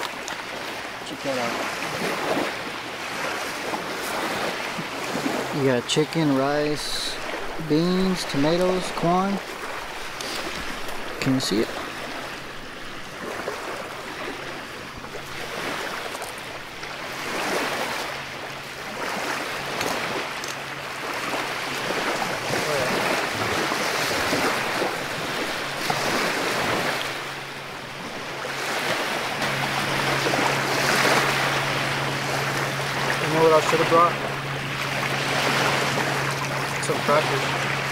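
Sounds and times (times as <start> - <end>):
small waves washing onto shore: 0.0 - 37.9
wind: 0.0 - 37.9.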